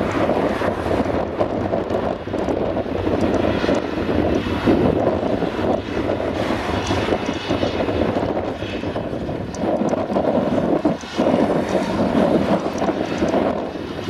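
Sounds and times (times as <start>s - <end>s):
tractor running: 0.0s - 14.0s.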